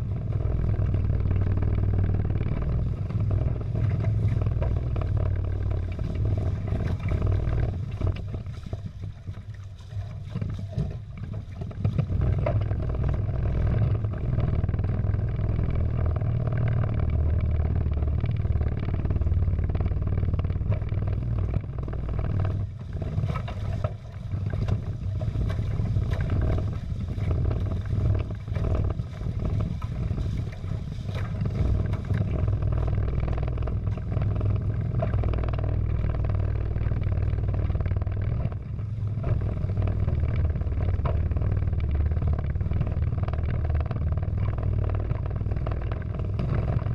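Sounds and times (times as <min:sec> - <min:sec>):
water splashing along hulls: 0:00.0 - 0:46.9
wind buffeting microphone: 0:00.0 - 0:46.9.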